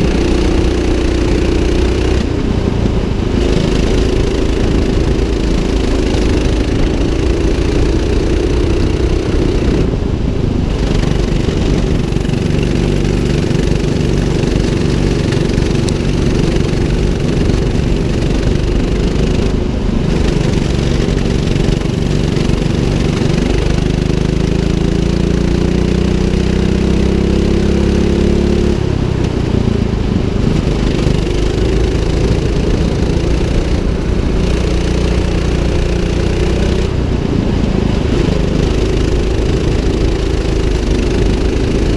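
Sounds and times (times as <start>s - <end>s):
go-kart engine revving: 0.0s - 41.9s.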